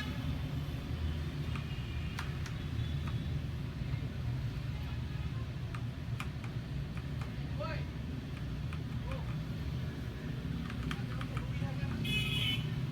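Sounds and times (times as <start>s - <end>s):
low rumble of street traffic: 0.0s - 12.9s.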